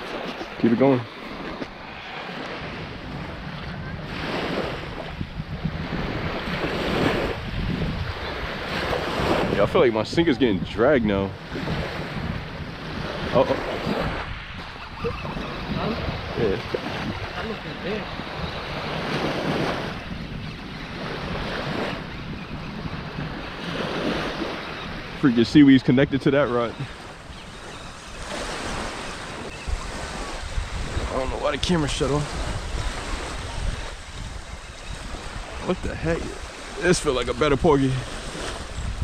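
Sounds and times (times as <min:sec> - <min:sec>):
small waves washing ashore: 0:00.0 - 0:39.0
wind rumbling on microphone: 0:00.0 - 0:39.0.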